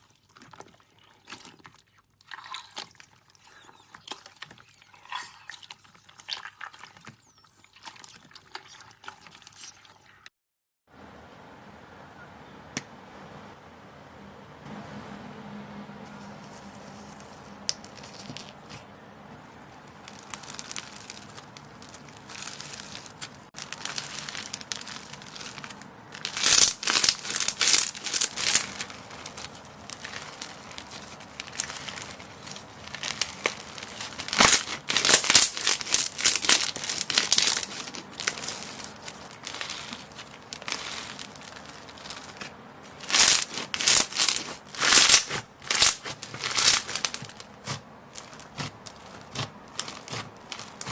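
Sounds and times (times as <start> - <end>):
crunchy slime crackling: 0.0 - 10.3, 20.0 - 50.9.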